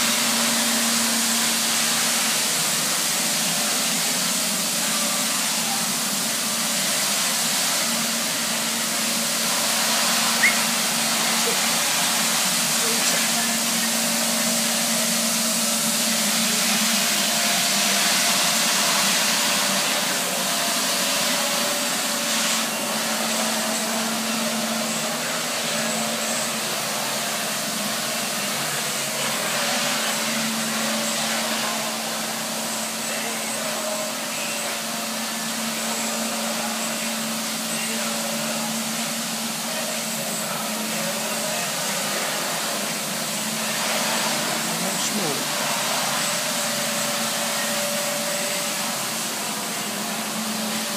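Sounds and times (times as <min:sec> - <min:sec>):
floor scrubber motor hum and hiss: 0:00.0 - 0:50.9.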